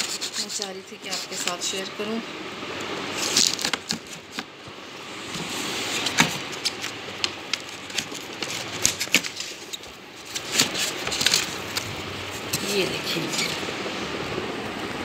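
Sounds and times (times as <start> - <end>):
cardboard rustling against foam: 0.0 - 1.9, 3.1 - 13.6.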